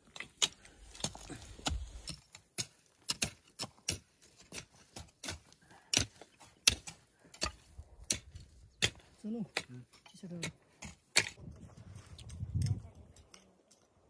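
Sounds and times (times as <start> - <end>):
hand hoes clinking on stones: 0.0 - 11.4.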